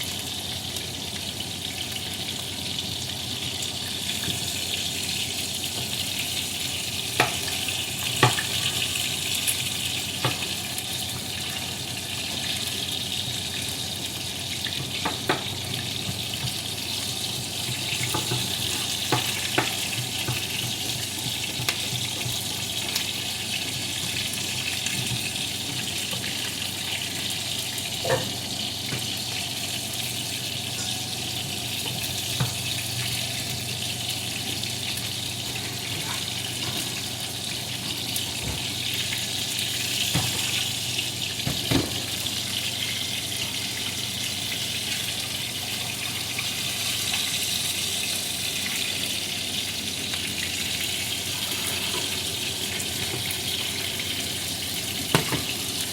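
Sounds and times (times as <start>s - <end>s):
chicken sizzling in oil: 0.0s - 55.9s.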